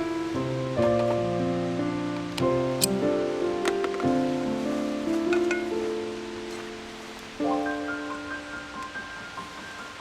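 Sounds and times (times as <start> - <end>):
soft sustained background music: 0.0 - 10.0.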